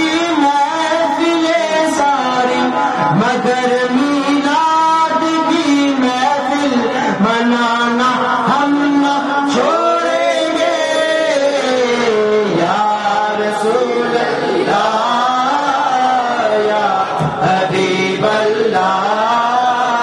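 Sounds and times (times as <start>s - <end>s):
man singing a devotional chant: 0.0s - 20.0s.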